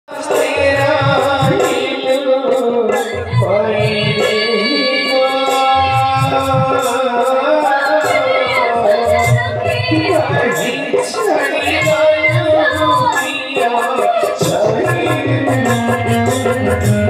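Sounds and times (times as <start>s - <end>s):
singer with wavering voice: 0.1s - 17.0s.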